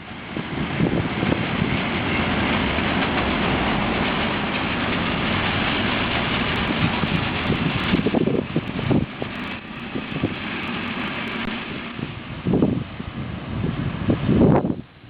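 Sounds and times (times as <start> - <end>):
train wheels rumbling on rail: 0.0 - 14.8.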